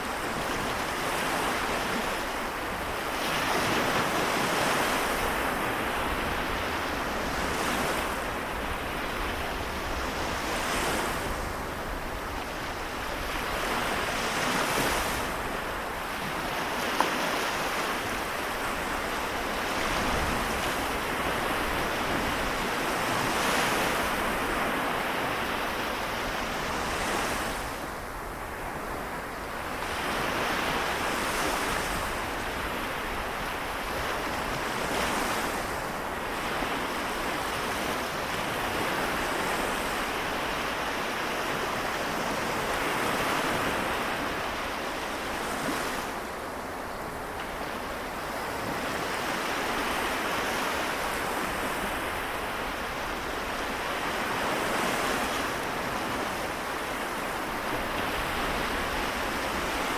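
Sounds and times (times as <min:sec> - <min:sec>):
small waves washing onto shore: 0:00.0 - 0:59.9.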